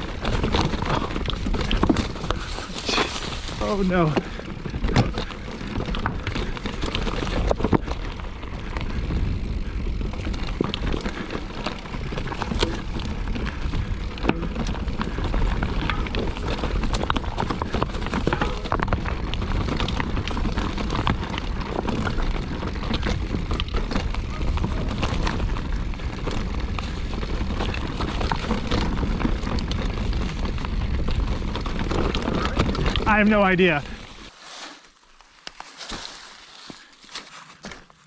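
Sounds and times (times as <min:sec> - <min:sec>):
wind rumble on microphone: 0:00.0 - 0:33.2
bike clicks and rattles: 0:00.0 - 0:38.0
bike tyre noise: 0:00.0 - 0:38.0.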